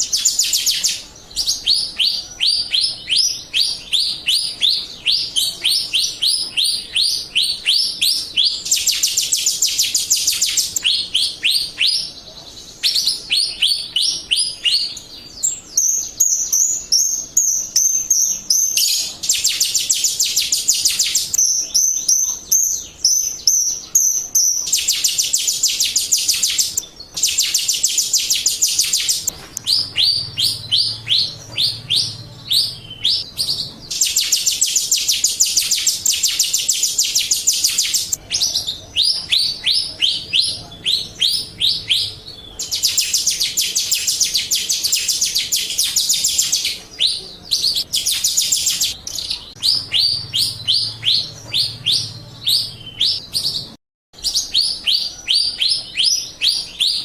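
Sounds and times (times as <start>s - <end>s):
starling chirping: 0.0s - 57.0s.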